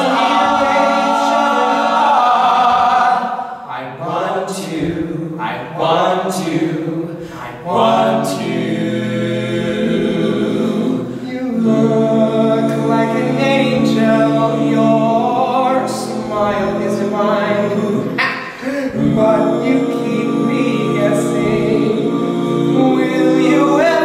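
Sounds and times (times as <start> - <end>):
male voices singing in harmony: 0.0 - 24.0.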